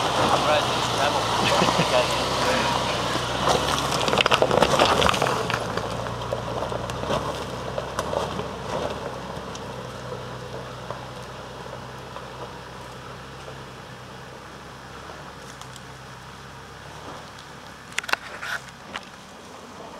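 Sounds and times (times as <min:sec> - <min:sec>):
stones crackling under tyres: 0:00.0 - 0:19.9
vehicle engine running: 0:00.0 - 0:19.9.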